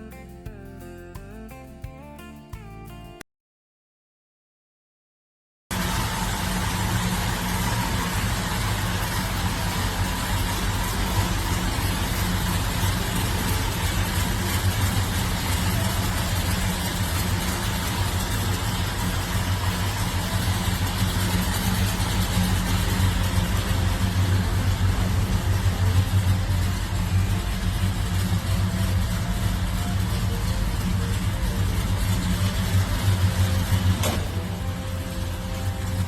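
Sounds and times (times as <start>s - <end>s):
car engine idling: 5.7s - 36.0s.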